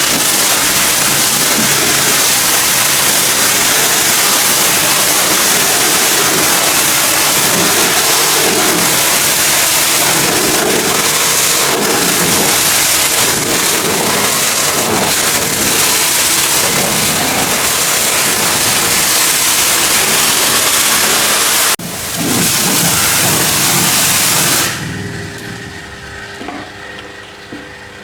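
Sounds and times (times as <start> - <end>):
pressure washer water spray: 0.0 - 26.6.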